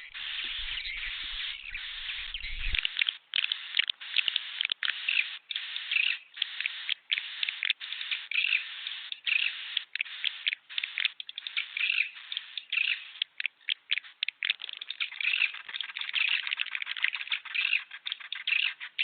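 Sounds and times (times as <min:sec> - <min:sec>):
swiftlets chirping and twittering: 0:00.0 - 0:19.0.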